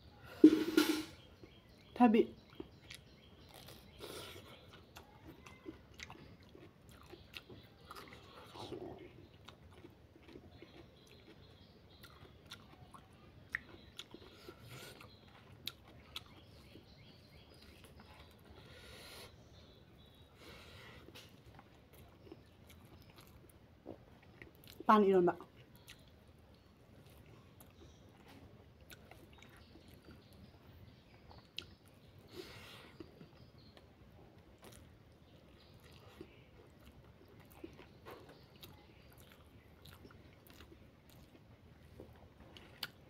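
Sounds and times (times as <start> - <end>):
faint chewing: 1.2 - 43.0.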